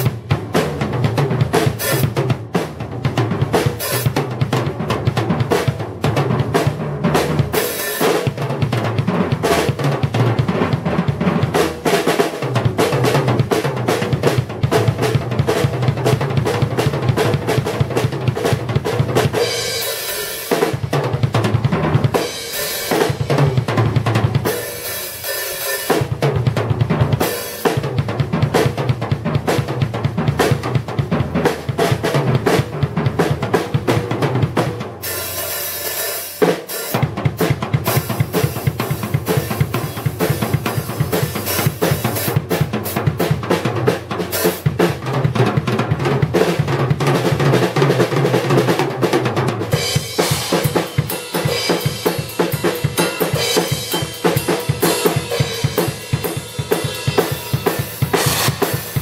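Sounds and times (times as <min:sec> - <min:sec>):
drum solo: 0:00.0 - 0:59.0.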